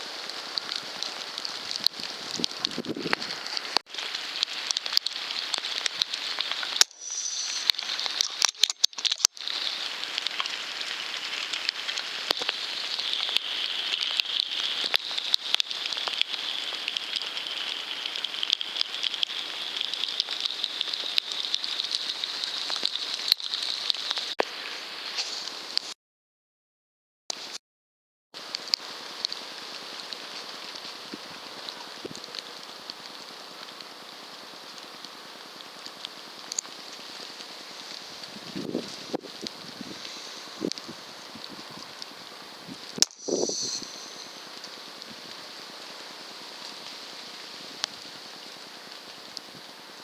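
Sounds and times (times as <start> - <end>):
dense crackling patter: 0.0 - 26.0, 28.4 - 50.0.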